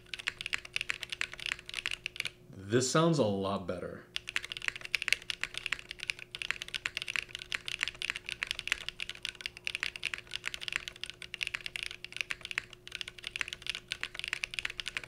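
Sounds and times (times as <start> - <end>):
mechanical keyboard typing: 0.0 - 2.4, 4.2 - 15.0.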